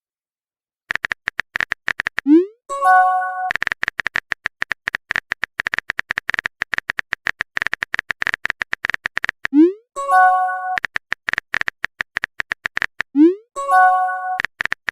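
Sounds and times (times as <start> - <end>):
keyboard typing clicks: 0.9 - 14.9.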